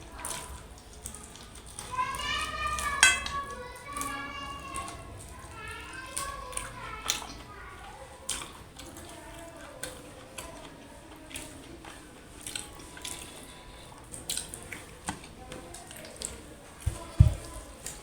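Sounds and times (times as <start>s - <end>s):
wet chewing and squelching: 0.0s - 18.0s.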